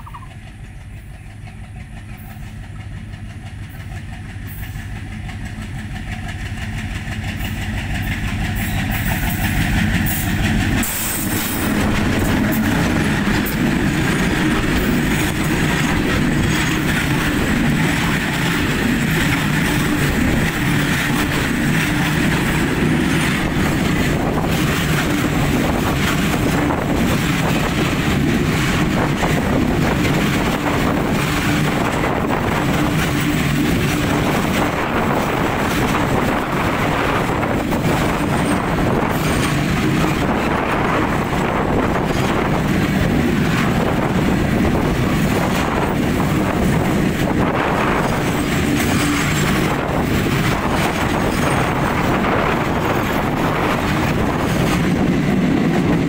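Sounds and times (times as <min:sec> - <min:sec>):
steel wheels rolling on rails: 0:00.0 - 0:56.0.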